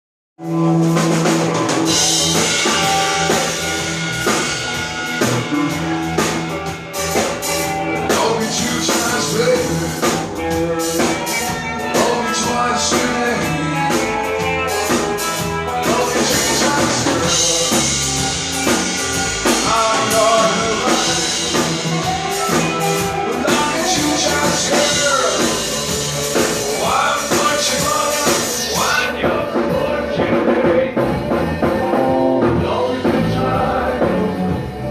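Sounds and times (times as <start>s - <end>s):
drum kit beat: 0.4s - 34.9s
rock music: 0.4s - 34.9s
person singing: 5.2s - 34.9s.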